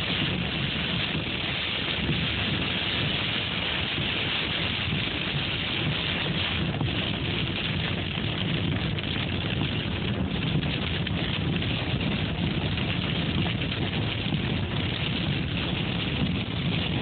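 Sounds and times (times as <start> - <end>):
heavy rain on car roof: 0.0 - 17.0
tyres hissing on wet road: 0.0 - 17.0.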